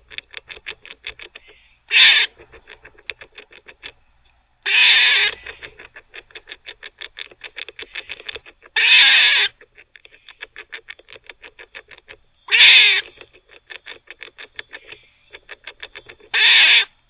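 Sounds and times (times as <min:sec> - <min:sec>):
squirrel barking: 0:00.0 - 0:04.0, 0:04.6 - 0:17.0
squirrel gnawing with clicking bites: 0:00.0 - 0:08.9, 0:09.5 - 0:16.4.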